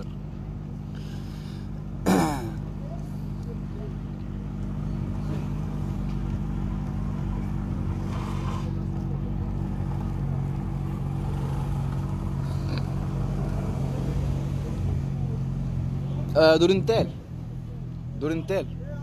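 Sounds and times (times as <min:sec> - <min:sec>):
faint street noise: 0:00.0 - 0:19.0
vehicle engine idling: 0:00.0 - 0:19.0.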